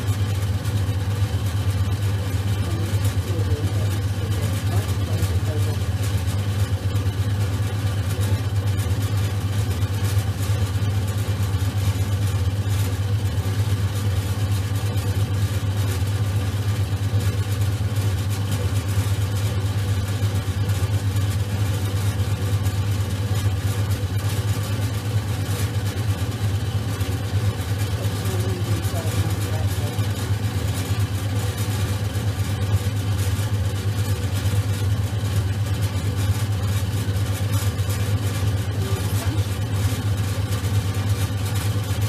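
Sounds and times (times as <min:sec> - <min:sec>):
potter's wheel motor humming: 0:00.0 - 0:42.0.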